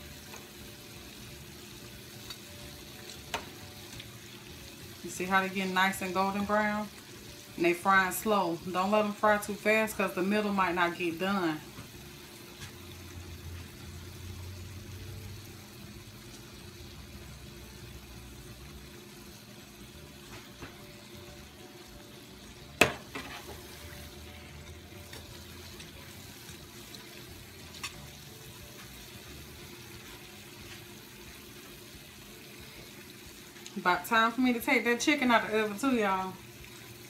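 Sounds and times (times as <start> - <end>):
food deep-frying in oil: 0.0 - 37.0.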